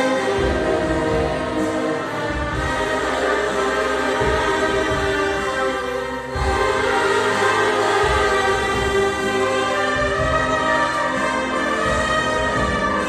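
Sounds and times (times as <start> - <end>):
orchestra and choir performing hymn: 0.0 - 13.0.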